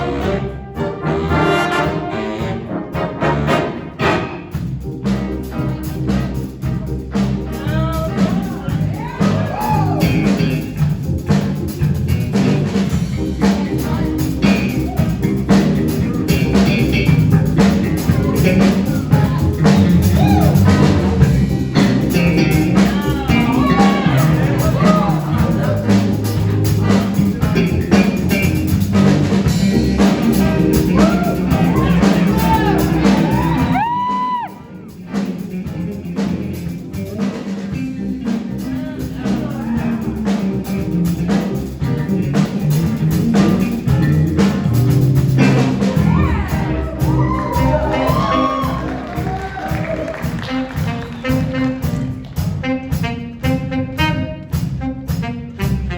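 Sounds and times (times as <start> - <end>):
saxophone solo: 0.0 - 11.2, 12.0 - 55.9
bass line: 0.0 - 55.9
drum kit beat: 0.0 - 55.9
jazz band playing: 0.0 - 55.9.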